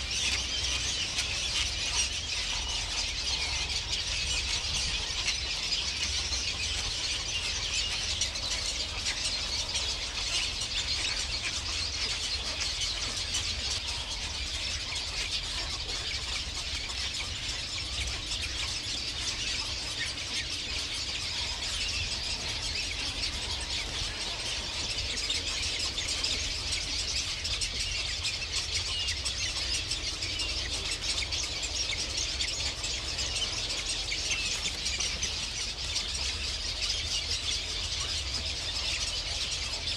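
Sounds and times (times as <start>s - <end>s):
high-pitched bird calls: 0.0s - 39.9s.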